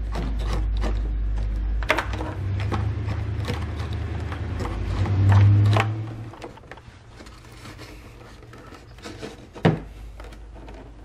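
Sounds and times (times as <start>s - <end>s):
plastic clicks and rustles: 0.0s - 11.0s.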